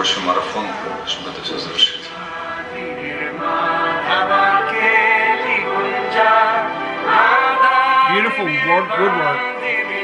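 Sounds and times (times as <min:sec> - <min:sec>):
music: 0:00.0 - 0:10.0
person singing devotional song: 0:00.1 - 0:10.0.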